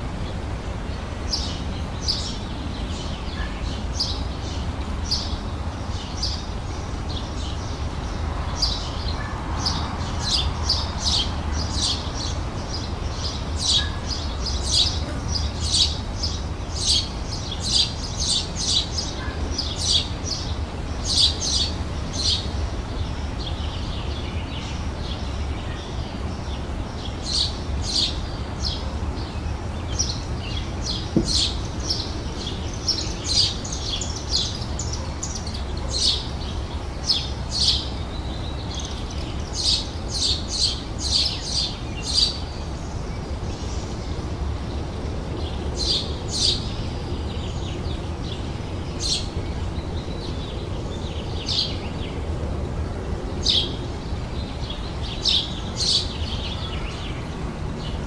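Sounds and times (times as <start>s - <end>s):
songbirds chirping and singing: 0.2s - 58.0s.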